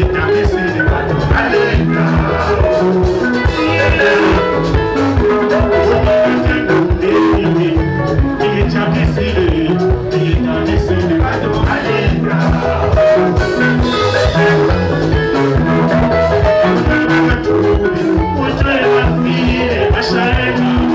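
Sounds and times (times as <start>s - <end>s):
man singing into microphone: 0.0s - 14.9s, 15.6s - 20.9s
bass: 0.0s - 20.9s
drum kit beat: 0.0s - 20.9s
electric guitars: 0.0s - 20.9s.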